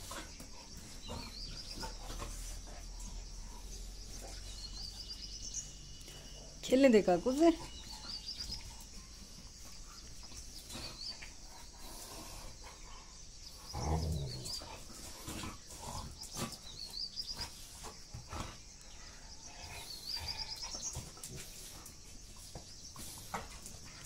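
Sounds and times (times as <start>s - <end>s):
dogs growling and grunting: 0.0s - 6.4s, 7.5s - 24.0s.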